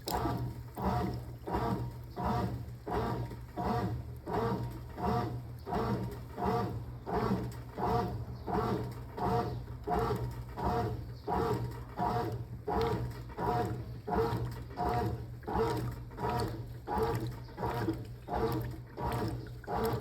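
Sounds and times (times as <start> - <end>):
low motor hum: 0.0 - 20.0
washing machine swishing water: 0.0 - 20.0.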